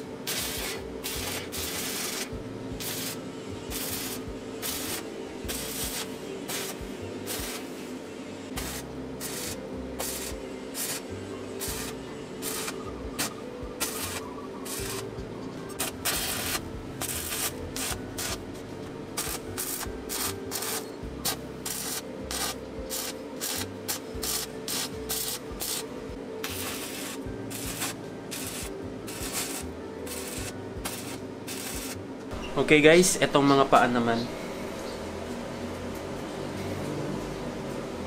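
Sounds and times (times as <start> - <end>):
electric arc welding crackling: 0.0 - 7.9, 8.5 - 15.2, 15.8 - 18.4, 19.0 - 33.6.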